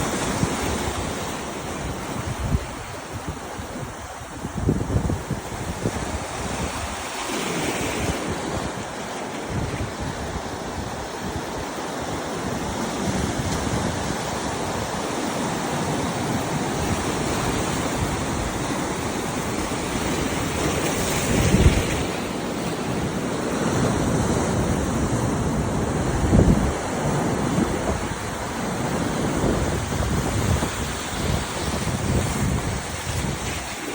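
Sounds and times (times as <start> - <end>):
ocean surf washing in: 0.0 - 33.9
wind buffeting microphone: 0.0 - 33.9.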